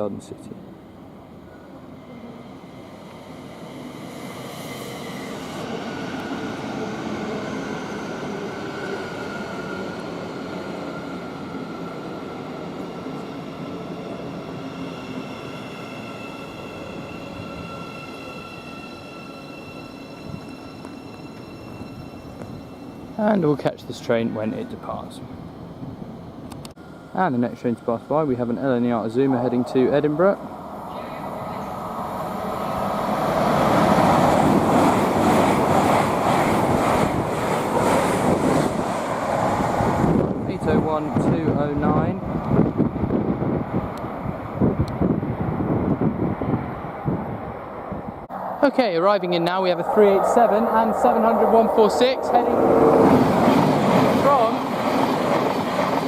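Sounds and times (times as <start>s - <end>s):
electric train rolling rumble: 0.0s - 56.0s
high multi-tone train whine: 0.0s - 56.0s.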